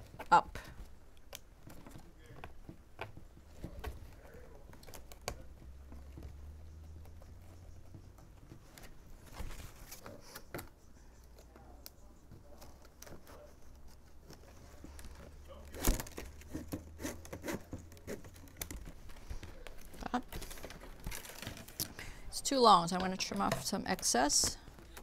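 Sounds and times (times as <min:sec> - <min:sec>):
plastic straps rustling and scraping: 0:00.0 - 0:25.0.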